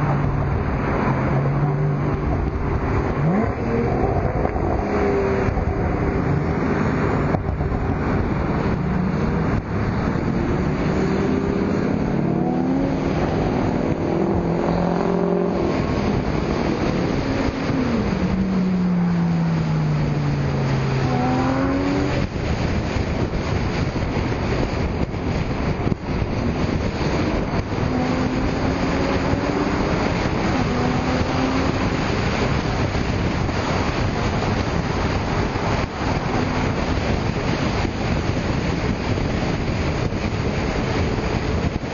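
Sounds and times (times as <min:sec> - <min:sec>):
sports car engines revving: 0:00.0 - 0:41.9
wind noise on microphone: 0:00.0 - 0:41.9.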